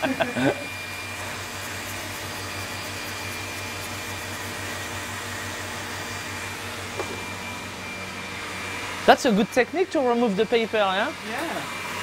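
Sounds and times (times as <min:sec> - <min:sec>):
stand mixer motor whirring: 0:00.0 - 0:12.0.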